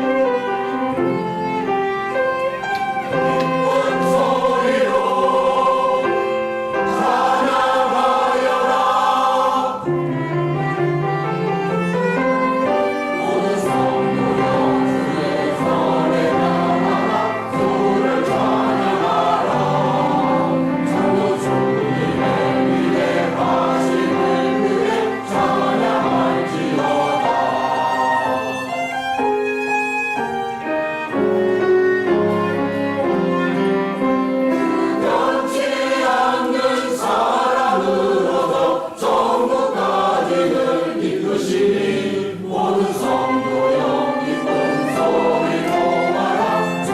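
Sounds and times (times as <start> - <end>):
church choir singing: 1.8 - 29.4, 32.2 - 46.9.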